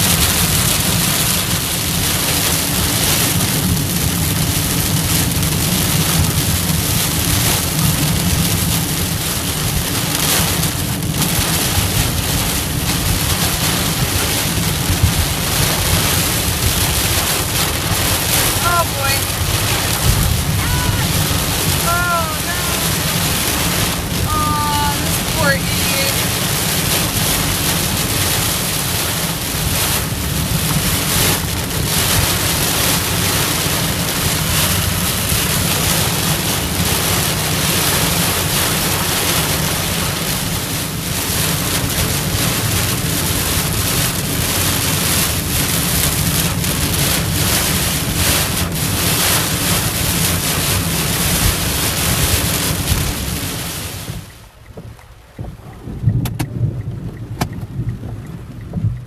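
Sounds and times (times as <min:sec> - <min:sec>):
heavy rain and wind on car: 0:00.0 - 0:59.0.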